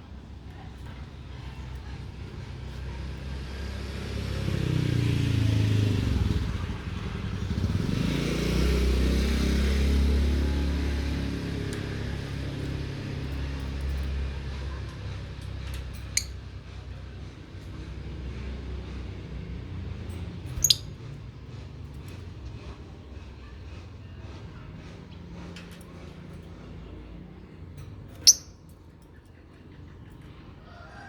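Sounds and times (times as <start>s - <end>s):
vehicle engine passing by: 0.0s - 28.4s.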